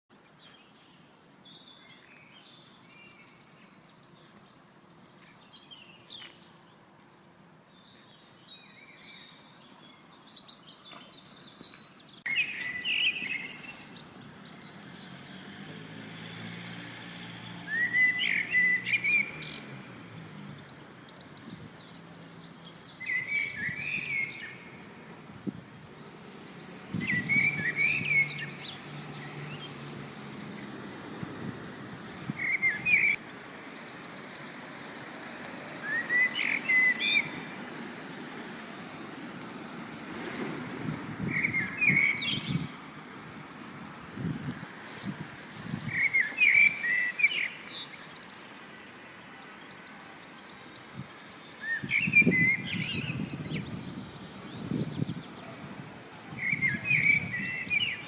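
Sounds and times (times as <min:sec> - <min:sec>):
bird warbling song: 0:00.1 - 0:30.7, 0:32.2 - 0:37.9, 0:39.4 - 0:58.0
birds chirping: 0:00.1 - 0:58.0.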